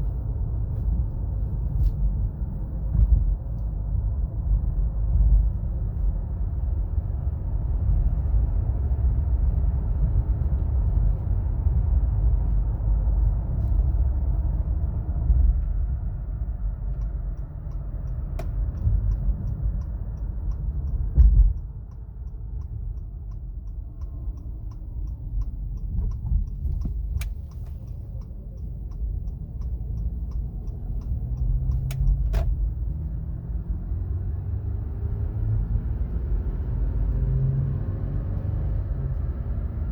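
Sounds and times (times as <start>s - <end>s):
road rumble inside car cabin: 0.0s - 39.9s.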